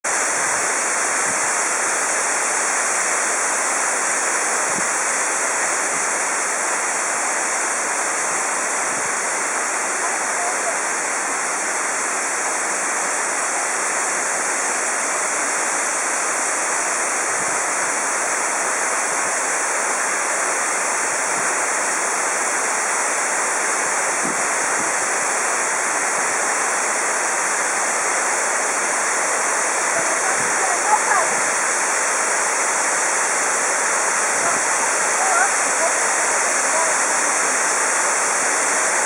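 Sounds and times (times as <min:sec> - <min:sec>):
waterfall rushing: 0:00.1 - 0:39.0.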